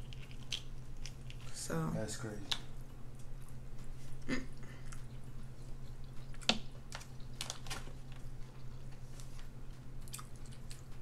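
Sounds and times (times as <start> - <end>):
chewing and mouth smacking: 0.0 - 1.6, 3.2 - 11.0
low steady hum: 0.0 - 11.0.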